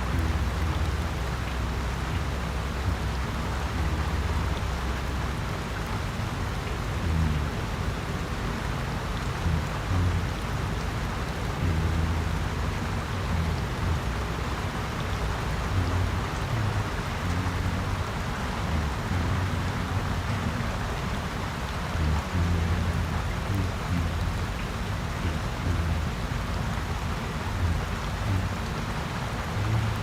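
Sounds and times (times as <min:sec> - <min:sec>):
low rumble: 0:00.0 - 0:30.0
steady rain: 0:00.0 - 0:30.0.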